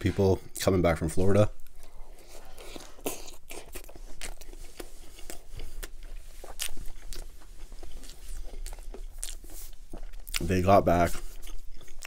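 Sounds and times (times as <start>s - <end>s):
close chewing crunches: 1.6s - 12.0s.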